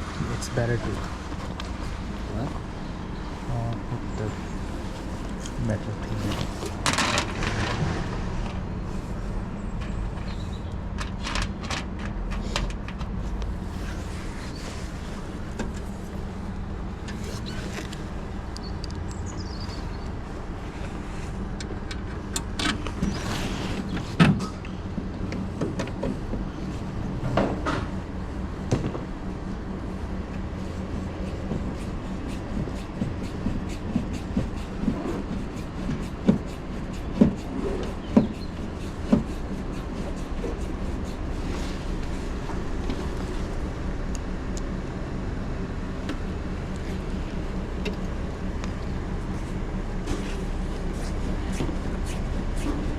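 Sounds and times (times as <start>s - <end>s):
low mechanical hum: 0.0s - 52.9s.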